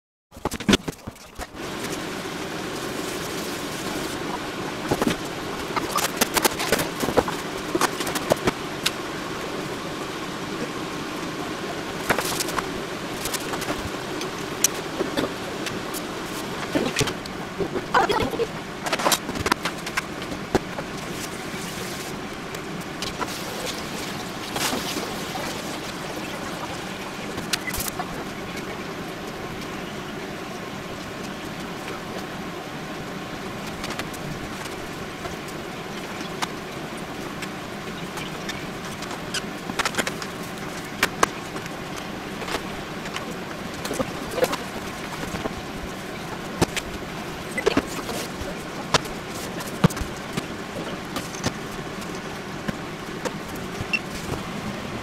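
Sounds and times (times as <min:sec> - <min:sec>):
steady mechanical hum: 0:00.3 - 0:55.0.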